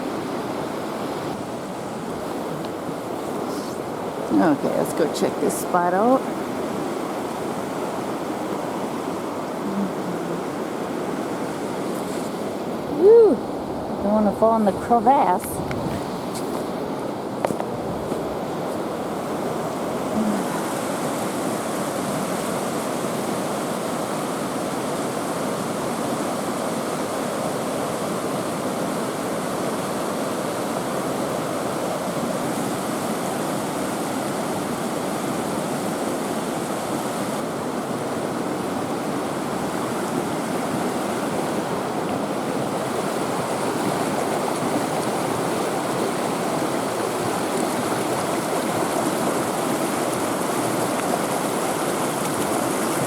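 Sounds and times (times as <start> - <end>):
waterfall and creek rushing: 0.0 - 53.0.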